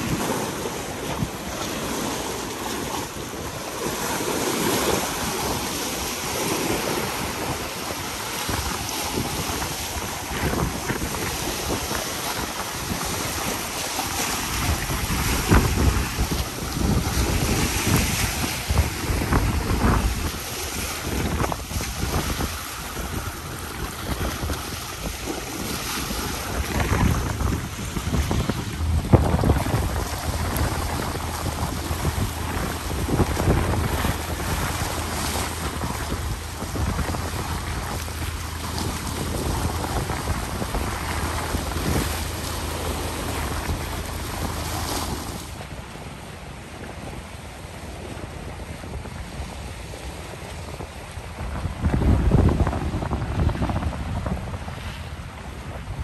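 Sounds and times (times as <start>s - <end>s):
waves splashing over rocks: 0.0s - 56.0s
wind gusting on microphone: 0.0s - 56.0s.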